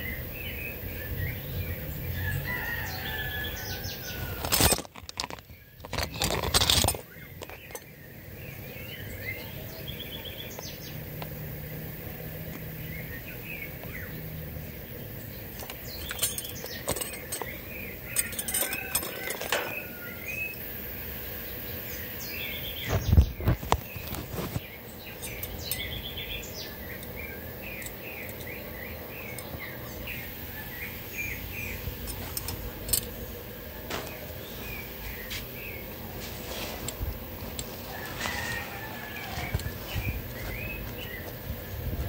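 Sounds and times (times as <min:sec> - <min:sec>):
small birds chirping: 0:00.0 - 0:04.5, 0:05.1 - 0:42.0.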